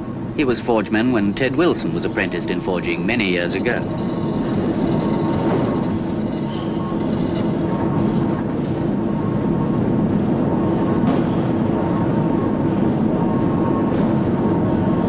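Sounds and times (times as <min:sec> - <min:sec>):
forge machinery rumble: 0:00.0 - 0:15.0.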